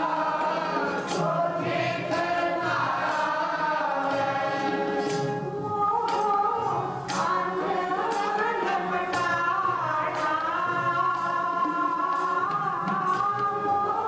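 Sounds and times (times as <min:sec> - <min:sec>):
harmonium: 0:00.0 - 0:14.0
tabla: 0:00.0 - 0:14.0
women singing a hymn: 0:00.0 - 0:14.0.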